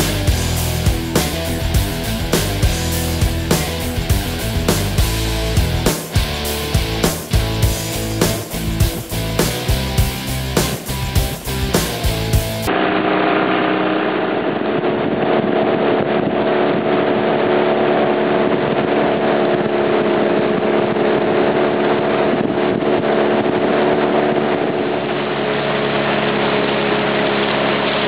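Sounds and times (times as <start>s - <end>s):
small outboard motor running: 0.0s - 28.0s.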